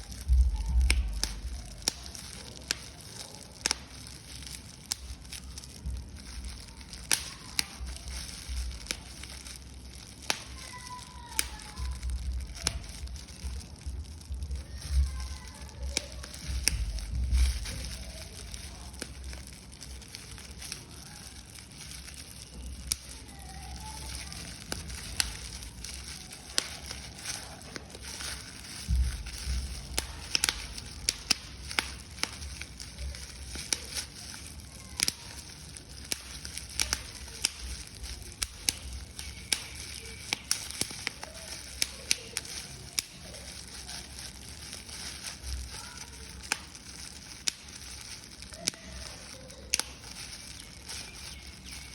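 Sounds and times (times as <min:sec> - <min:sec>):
paper being crumpled: 0:00.0 - 0:51.9.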